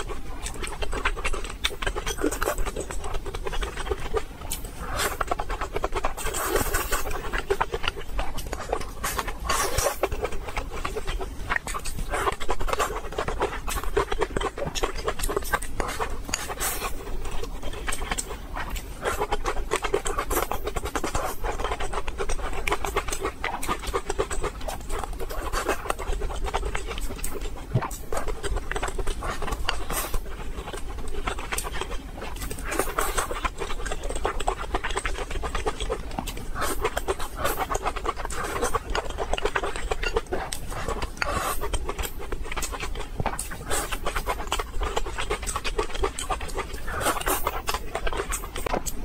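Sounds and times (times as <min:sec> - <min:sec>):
mouth clicks and smacks: 0:00.0 - 0:49.0
wet chewing and slurping: 0:00.0 - 0:49.0.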